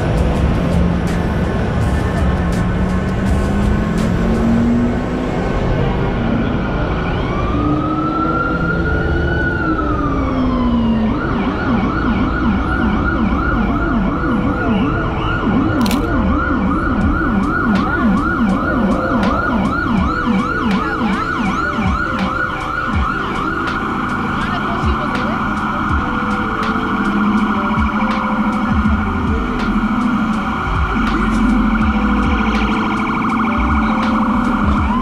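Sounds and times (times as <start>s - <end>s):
city traffic noise: 0.0s - 35.0s
emergency vehicle siren: 0.0s - 35.0s.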